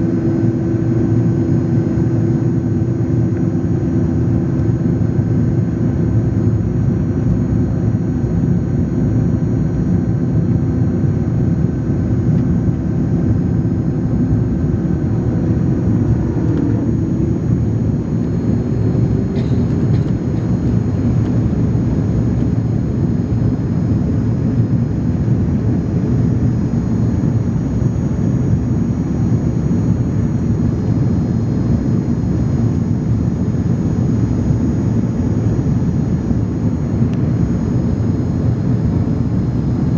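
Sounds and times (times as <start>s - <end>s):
jet engines rushing and whining: 0.0s - 39.9s.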